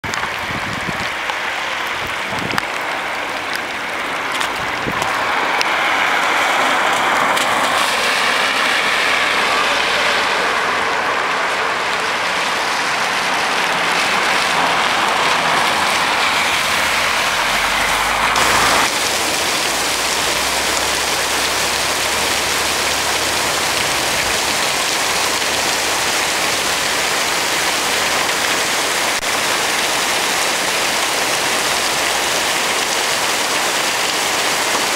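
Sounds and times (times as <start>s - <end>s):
heavy rain splashing: 0.0s - 34.9s
tyres swishing through water: 0.0s - 34.9s.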